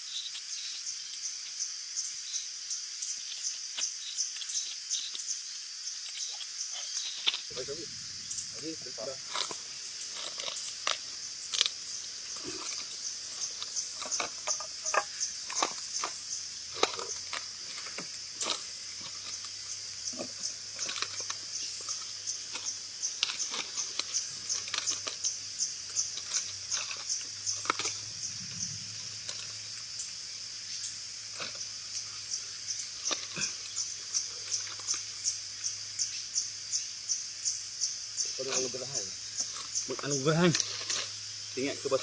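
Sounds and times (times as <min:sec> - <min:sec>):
insects chirping: 0:00.0 - 0:42.0.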